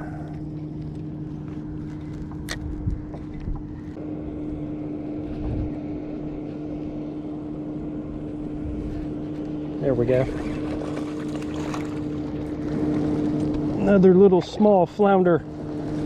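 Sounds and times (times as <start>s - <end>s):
motorboat engine hum: 0.0s - 16.0s.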